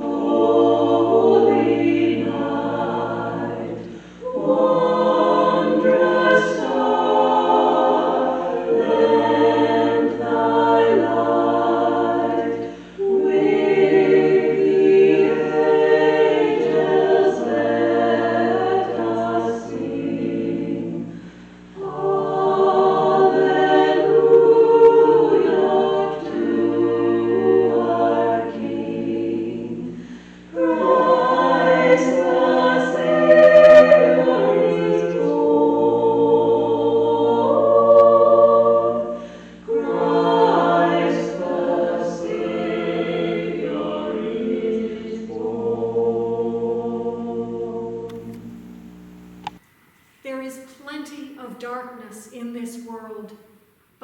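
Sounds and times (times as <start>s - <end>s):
choir singing a hymn: 0.0s - 48.5s.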